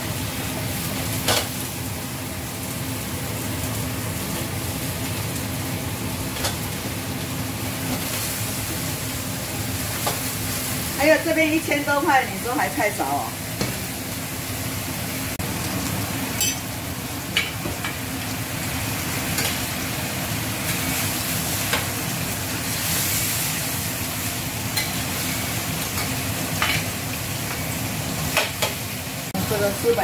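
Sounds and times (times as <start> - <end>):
meat and onion sizzling in a pan: 0.0 - 30.0.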